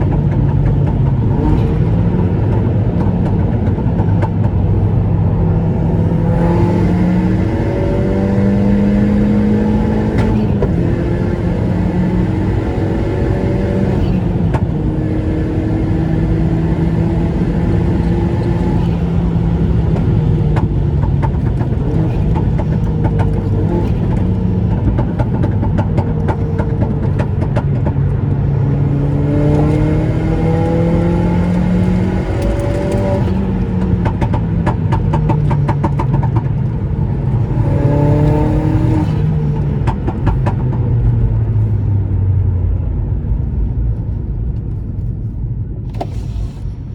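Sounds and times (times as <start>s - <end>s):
car engine revving through gears: 0.0s - 45.1s.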